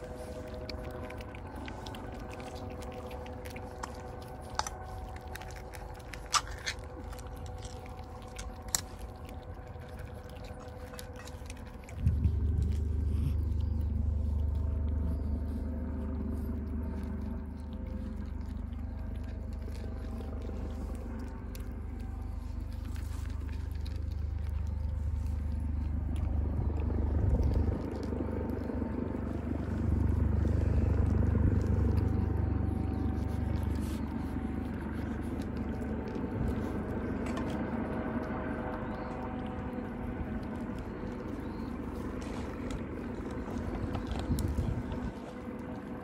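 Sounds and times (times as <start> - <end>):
cats crunching dry kibble: 0.0 - 46.0
steady low rumble: 0.0 - 46.0.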